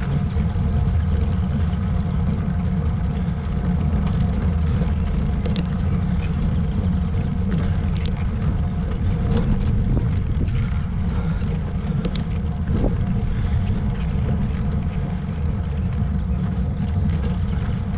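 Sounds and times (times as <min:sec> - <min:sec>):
wind and road noise rumble: 0:00.0 - 0:17.9.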